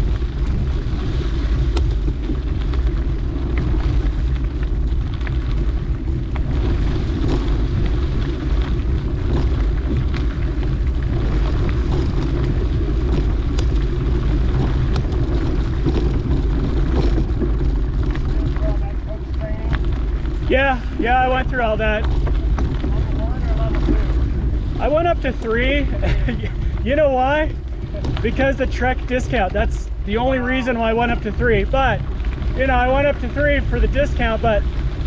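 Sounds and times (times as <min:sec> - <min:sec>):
bike clicks and rattles: 0:00.0 - 0:35.0
tyres rolling on dirt: 0:00.0 - 0:35.0
wind buffeting microphone: 0:00.0 - 0:35.0.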